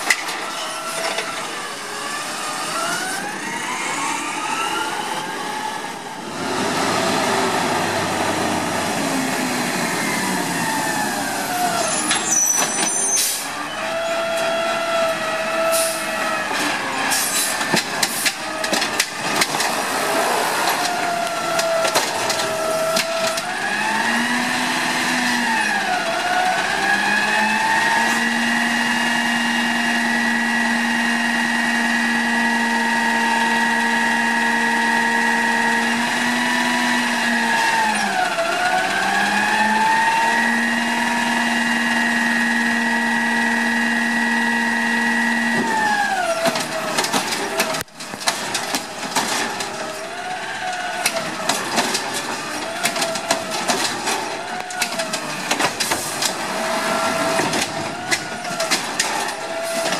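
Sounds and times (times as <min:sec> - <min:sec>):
hydraulics whining: 0:00.0 - 0:59.9.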